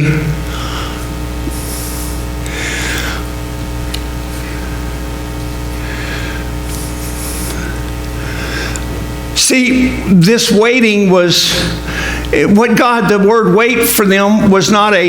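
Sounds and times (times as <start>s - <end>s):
electrical hum with held tones: 0.0s - 15.0s.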